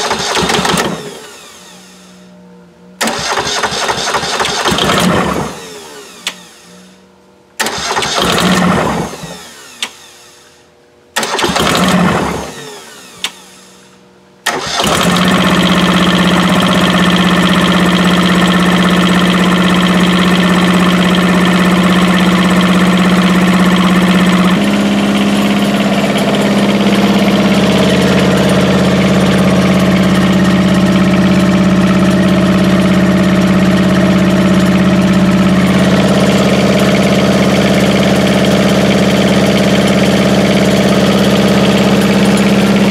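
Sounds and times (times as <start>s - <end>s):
diesel engine starting and running: 0.0s - 42.9s.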